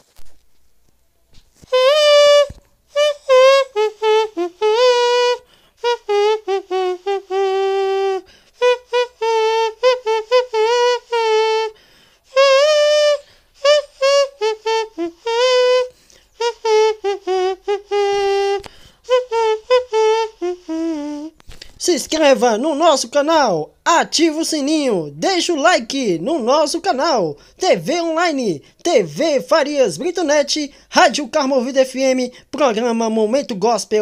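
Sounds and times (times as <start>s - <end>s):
man imitating a trumpet: 1.6s - 34.0s.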